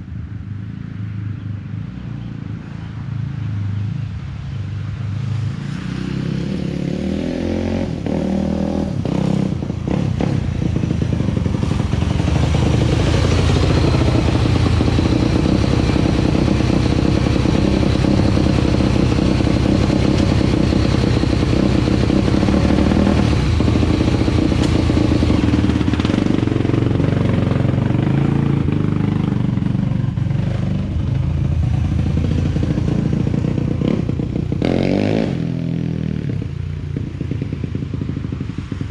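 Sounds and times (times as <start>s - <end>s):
motorcycle engine running: 7.8s - 38.9s.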